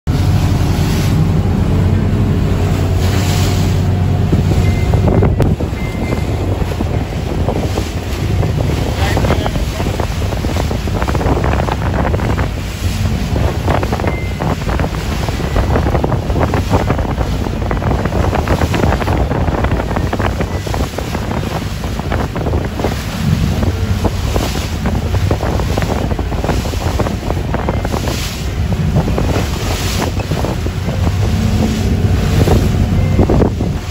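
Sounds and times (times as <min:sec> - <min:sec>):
waves rushing against hull: 0:00.0 - 0:33.9
boat engine droning: 0:00.1 - 0:33.9
wind buffeting microphone: 0:00.1 - 0:33.9.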